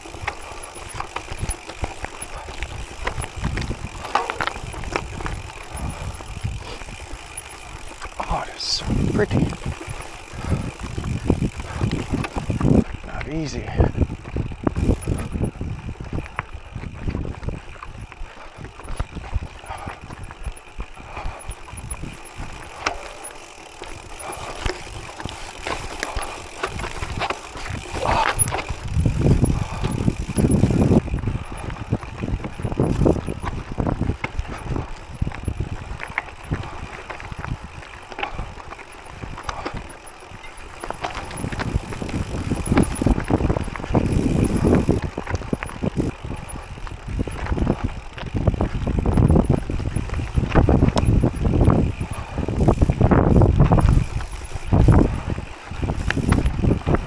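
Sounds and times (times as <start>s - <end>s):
bike rattling and clattering: 0.0s - 57.0s
tyres crunching on stones: 0.0s - 57.0s.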